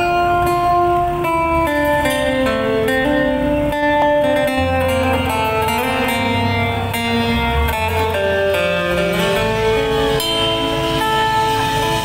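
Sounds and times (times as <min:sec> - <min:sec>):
acoustic guitar: 0:00.0 - 0:12.0
low bass line: 0:00.0 - 0:12.0.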